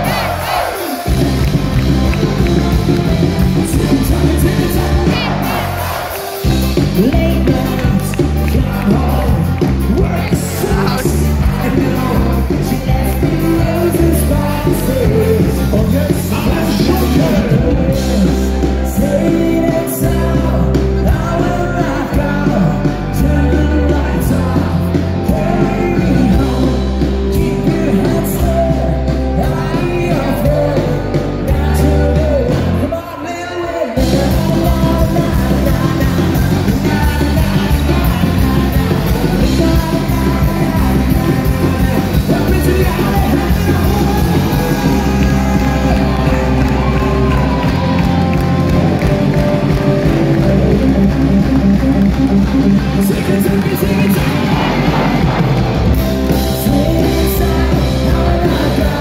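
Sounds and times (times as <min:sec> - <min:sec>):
rock band playing: 0:00.0 - 0:59.0
singer singing and yelling: 0:00.0 - 0:59.0.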